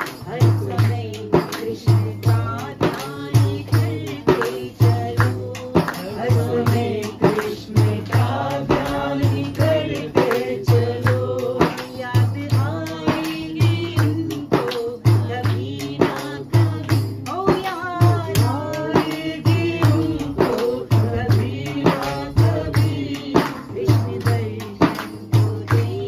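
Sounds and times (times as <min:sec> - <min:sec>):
frame drum beating: 0:00.0 - 0:26.0
person singing: 0:00.0 - 0:26.0.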